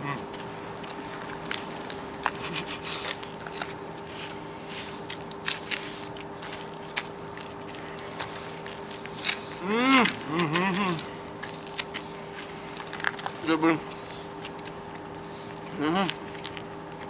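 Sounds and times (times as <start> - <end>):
people biting lemons: 0.0 - 16.9
faint hum: 0.0 - 17.0.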